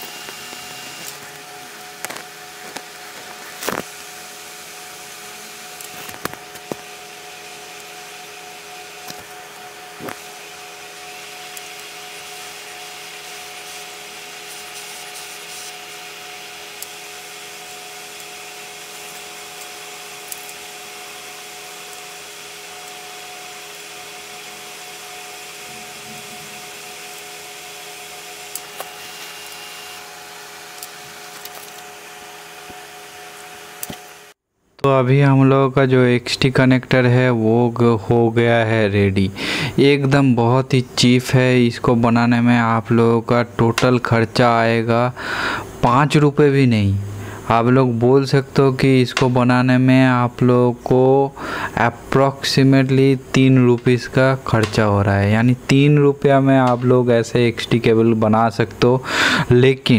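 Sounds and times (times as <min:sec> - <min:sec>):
machine hum: 0:00.0 - 0:34.4, 0:37.3 - 0:59.9.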